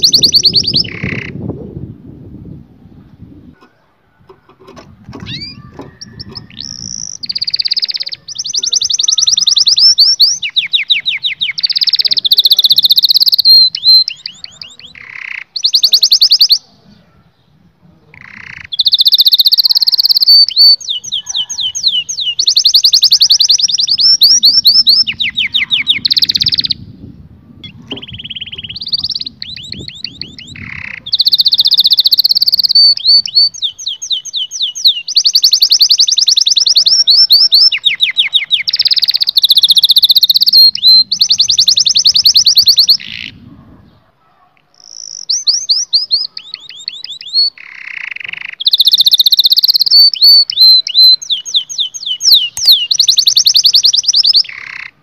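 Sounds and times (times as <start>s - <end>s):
canary singing trills: 0.0s - 1.6s, 3.0s - 55.0s.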